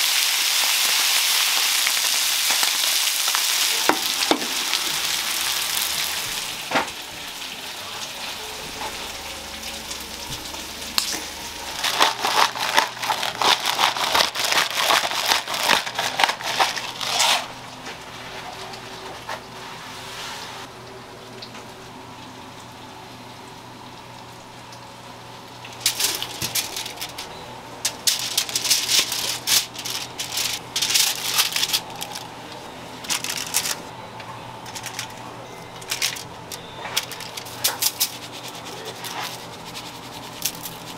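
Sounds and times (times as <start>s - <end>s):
crackling and clatter of handling foil: 0.0s - 19.5s, 25.6s - 40.9s.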